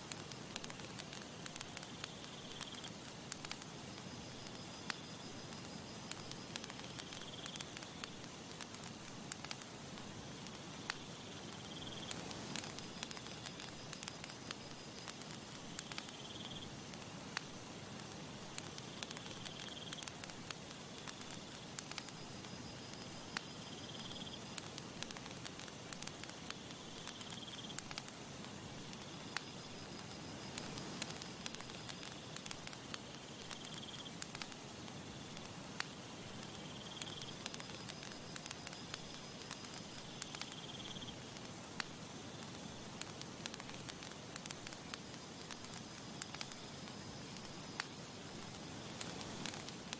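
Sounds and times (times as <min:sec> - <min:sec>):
campfire crackling: 0:00.0 - 0:49.9.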